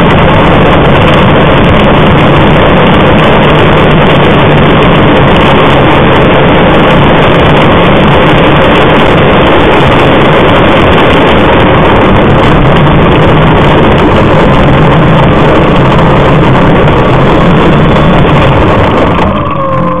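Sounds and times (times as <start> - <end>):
model plane engine and propeller: 0.0 - 20.0
wind rush: 0.0 - 20.0.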